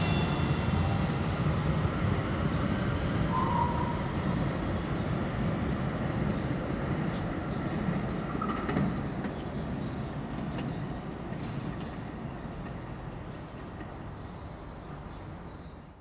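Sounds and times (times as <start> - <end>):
train wheels rumbling: 0.0 - 15.5.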